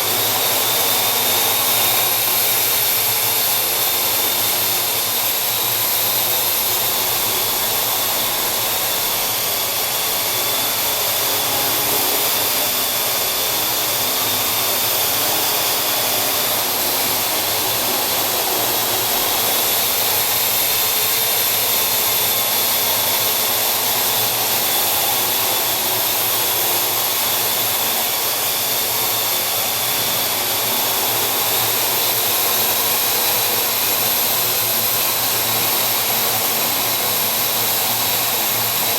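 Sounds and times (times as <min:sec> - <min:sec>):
high motor whine: 0:00.0 - 0:38.9.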